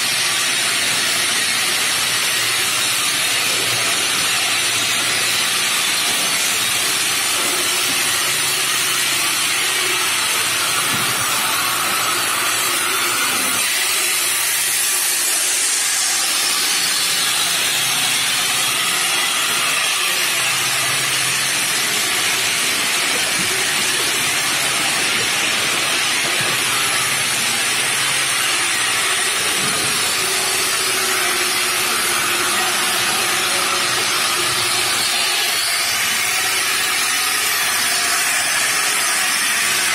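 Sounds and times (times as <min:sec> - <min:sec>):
saw blade grinding stone: 0:00.0 - 0:39.9.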